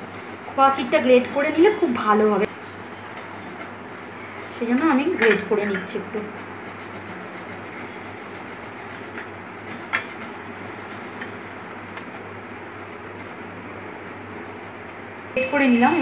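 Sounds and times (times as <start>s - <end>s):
grating on metal grater: 0.0s - 4.1s, 6.4s - 15.3s.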